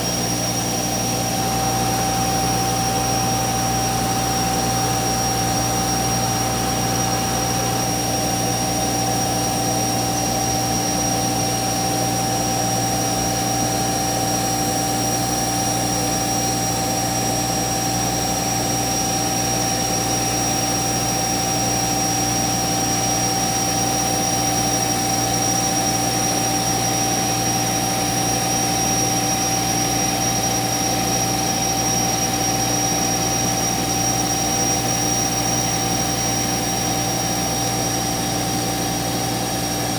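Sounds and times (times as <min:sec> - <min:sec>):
cnc router machine whine: 0:00.0 - 0:39.9.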